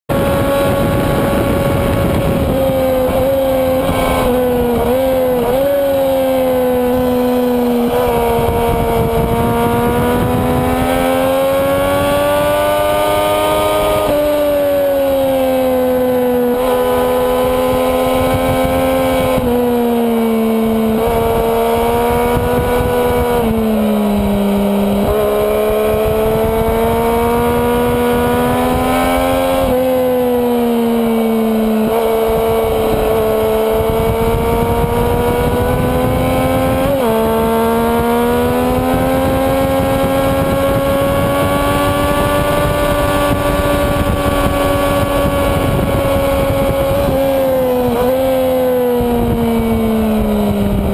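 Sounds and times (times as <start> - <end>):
motorcycle engine at high revs: 0.0 - 50.9
wind rush: 0.1 - 50.9.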